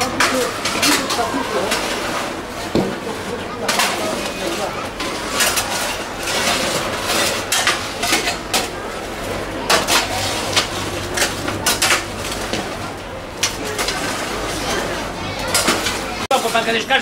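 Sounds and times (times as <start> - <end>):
chestnuts rattling in metal tray: 0.0 - 17.0
metal shovel scraping metal: 0.0 - 17.0.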